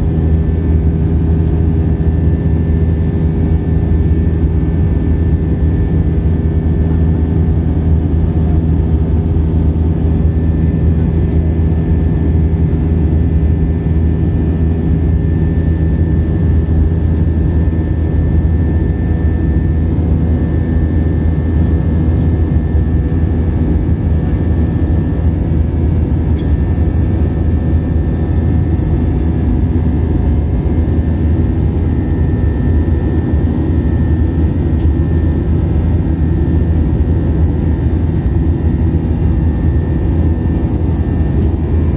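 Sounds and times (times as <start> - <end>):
jet engine drone in cabin: 0.0 - 41.9.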